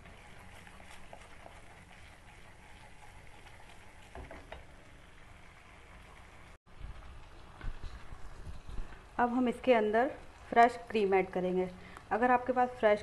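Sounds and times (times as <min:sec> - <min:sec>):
paste frying in oil: 0:00.0 - 0:13.0.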